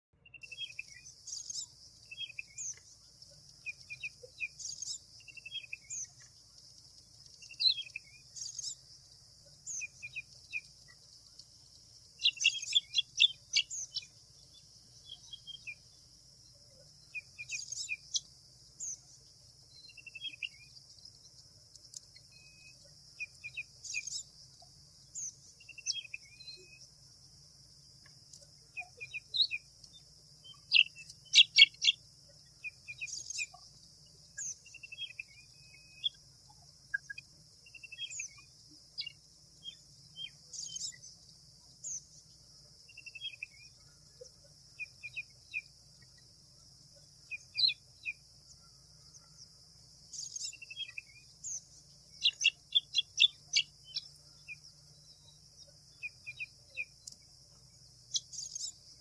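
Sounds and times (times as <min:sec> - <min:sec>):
small songbirds chirping: 0:00.1 - 0:59.0.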